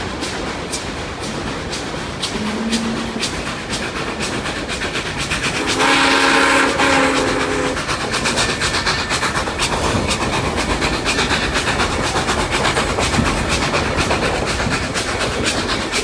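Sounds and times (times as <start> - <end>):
steam train clacking: 0.0 - 16.0.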